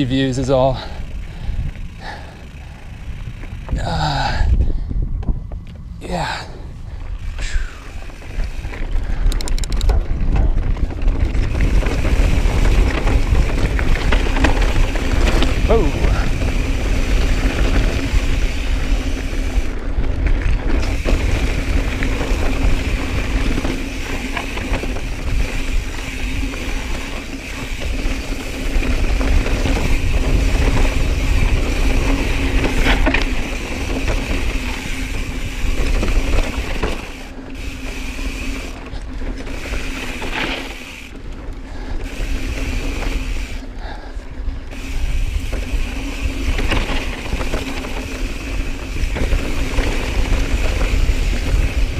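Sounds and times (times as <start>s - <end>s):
bike freehub buzzing: 0.0s - 51.9s
rumble of wind and tyres: 0.0s - 51.9s.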